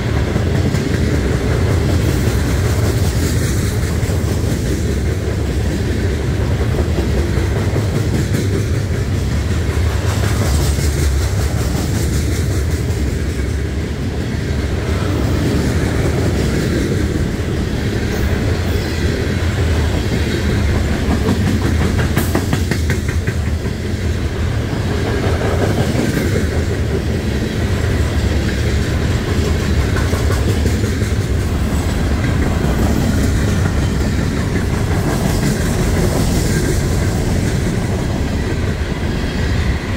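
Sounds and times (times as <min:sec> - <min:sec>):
freight train rumbling past: 0:00.0 - 0:39.9
wheels clickety-clack on track: 0:00.0 - 0:39.9.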